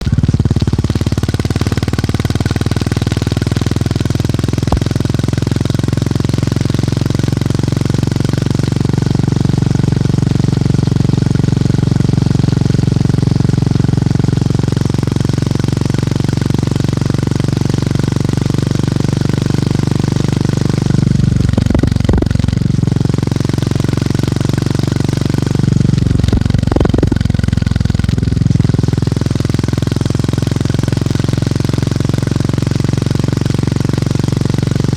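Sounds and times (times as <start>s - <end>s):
motorcycle engine thumping: 0.0s - 34.9s.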